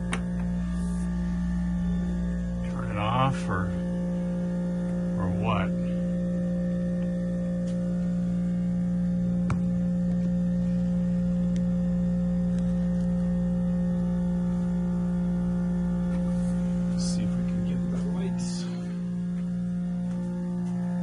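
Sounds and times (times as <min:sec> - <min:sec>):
heat pump humming: 0:00.0 - 0:21.0.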